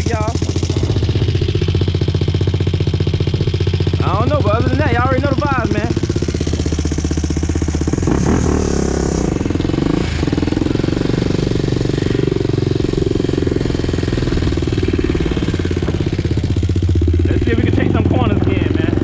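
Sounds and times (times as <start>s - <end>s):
quad engine idling: 0.0s - 19.0s.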